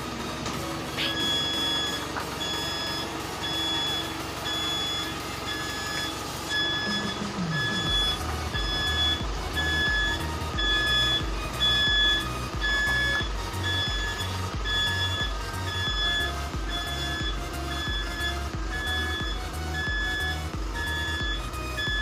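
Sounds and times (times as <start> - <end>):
truck reversing alarm beeping: 0.0 - 22.0.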